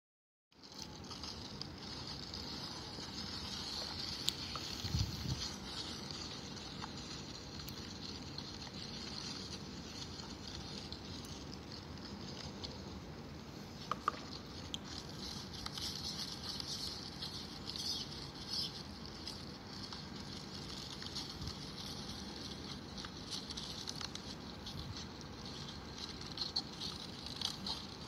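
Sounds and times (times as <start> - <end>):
background hiss: 0.6 - 28.0.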